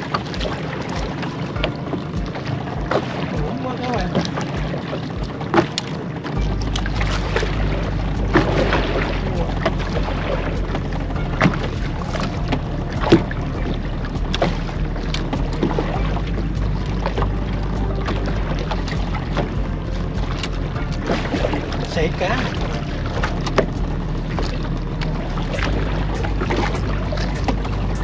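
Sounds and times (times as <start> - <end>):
outboard motor running: 0.0 - 28.0
water washing against hull: 0.0 - 28.0.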